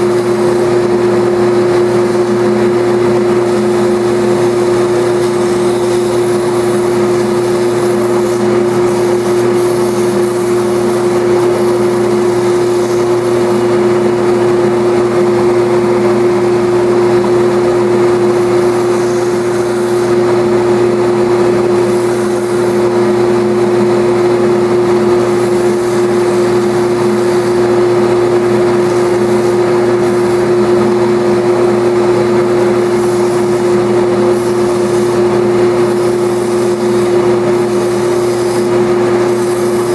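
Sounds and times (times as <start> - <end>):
wood sanded against belt: 0.0 - 14.6, 18.4 - 39.9
belt sander motor hum: 0.0 - 39.9.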